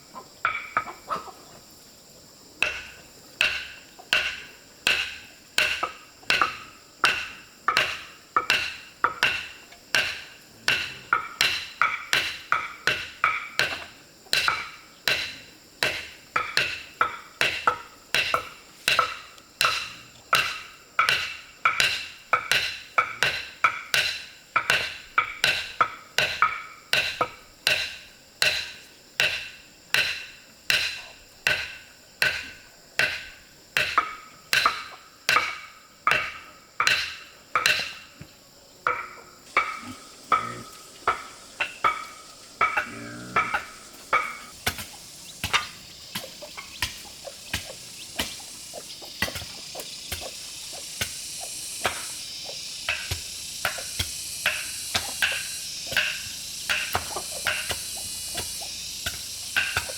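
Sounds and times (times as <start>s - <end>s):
hand tool striking wood: 0.4s - 0.9s, 2.6s - 38.1s, 38.9s - 59.9s.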